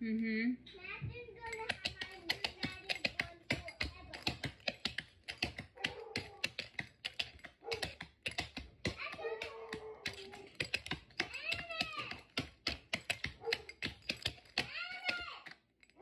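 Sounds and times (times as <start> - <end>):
tap shoes clicking on hardwood floor: 1.4 - 15.6.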